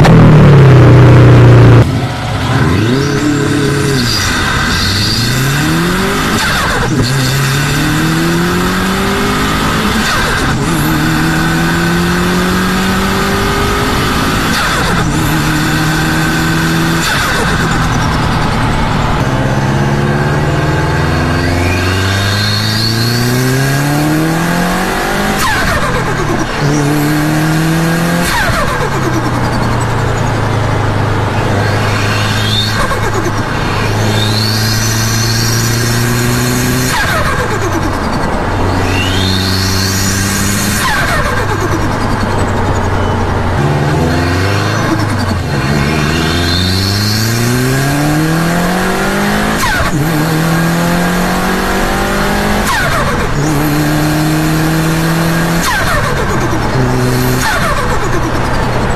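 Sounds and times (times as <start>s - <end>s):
car engine revving through gears: 0.0s - 58.9s.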